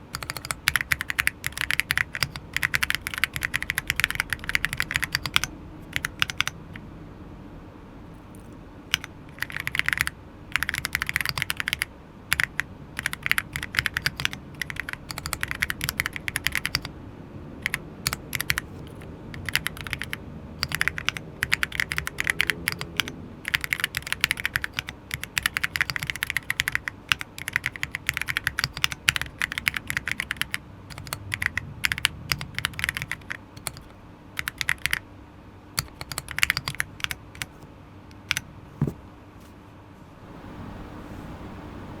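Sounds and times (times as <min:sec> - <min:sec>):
mechanical keyboard typing: 0:00.0 - 0:06.9, 0:08.2 - 0:16.9, 0:17.6 - 0:35.0, 0:35.8 - 0:39.0.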